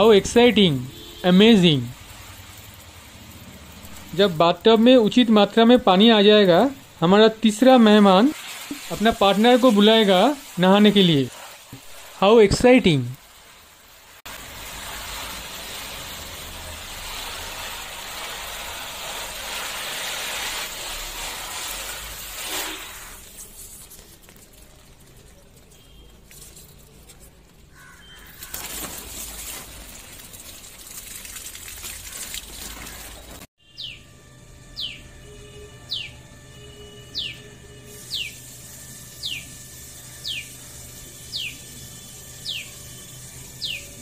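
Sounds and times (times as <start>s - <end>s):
water running hiss: 0.0s - 33.5s, 37.8s - 44.0s.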